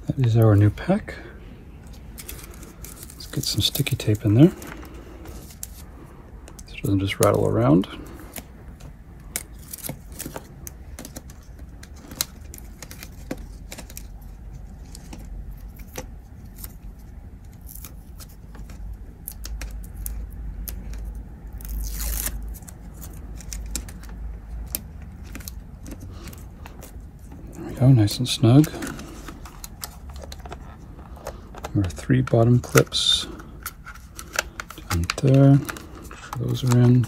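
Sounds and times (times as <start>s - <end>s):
tape rustling: 1.8s - 37.0s.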